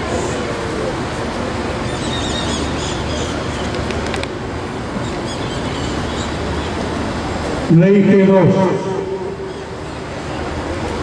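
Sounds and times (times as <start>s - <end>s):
low hubbub: 0.0s - 11.0s.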